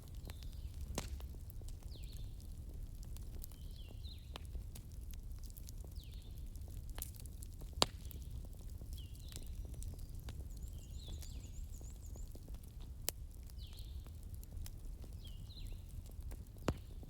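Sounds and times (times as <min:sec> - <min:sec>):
fire pops: 0:00.0 - 0:17.0
wood fire crackling: 0:00.0 - 0:17.0.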